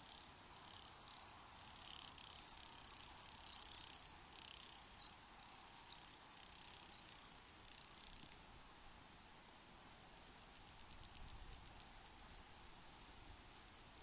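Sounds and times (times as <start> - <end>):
crickets chirring: 0.0 - 8.4, 10.4 - 14.0
soft steady hiss: 0.0 - 14.0.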